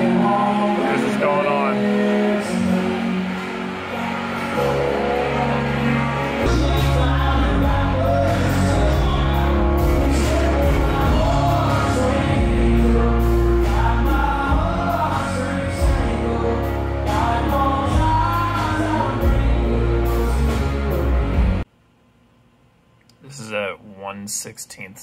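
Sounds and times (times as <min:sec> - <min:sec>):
heavy bass line: 0:00.0 - 0:21.6
music with singing voices: 0:00.0 - 0:21.7.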